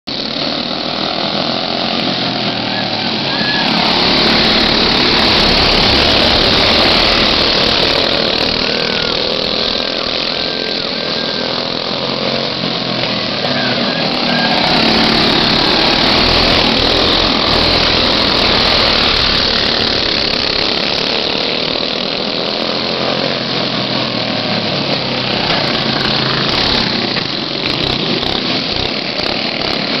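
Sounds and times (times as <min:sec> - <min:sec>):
go-kart engines buzzing: 0:00.0 - 0:30.0.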